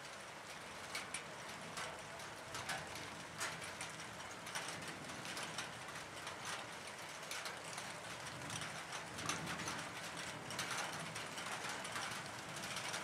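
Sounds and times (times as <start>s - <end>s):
light ticks and clicks: 0.1s - 13.0s.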